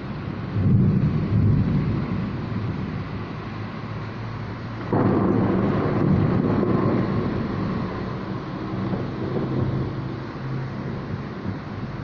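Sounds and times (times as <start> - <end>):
heavy rain hiss: 0.0 - 12.0
thunder rumbling: 0.0 - 12.0.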